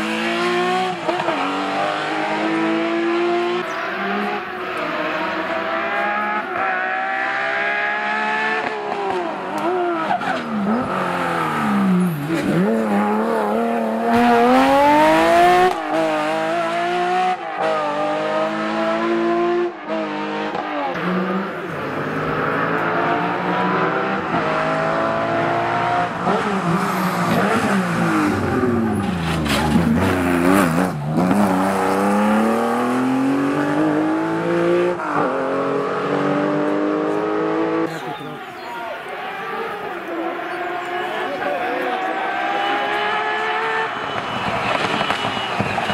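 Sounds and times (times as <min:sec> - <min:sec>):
rally car engines revving: 0:00.0 - 0:45.9.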